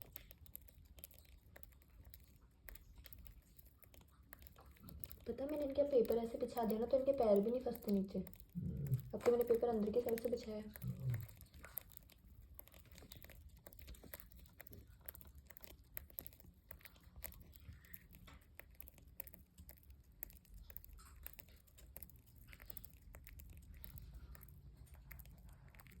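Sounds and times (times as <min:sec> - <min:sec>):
parrots cracking food: 0:00.0 - 0:26.0.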